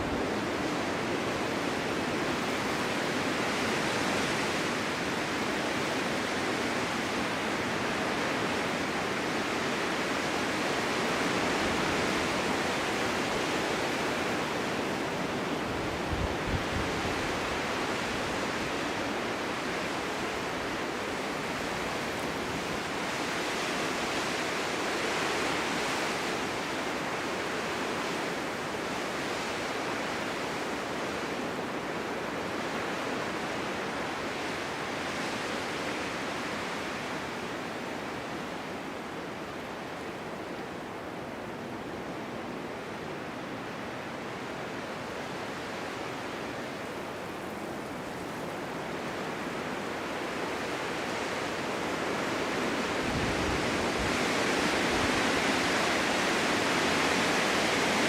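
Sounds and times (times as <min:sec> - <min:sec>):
snowstorm wind blowing: 0:00.0 - 0:58.0.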